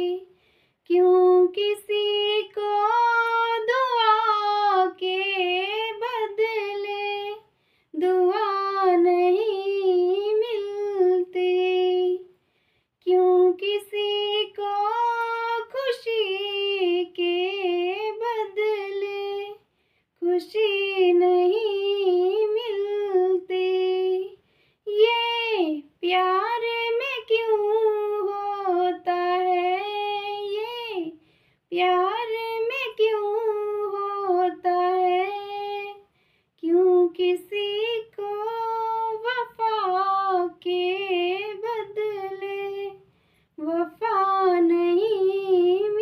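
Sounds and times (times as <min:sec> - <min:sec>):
girl singing unaccompanied: 0:00.0 - 0:12.3, 0:13.0 - 0:19.6, 0:20.2 - 0:46.0.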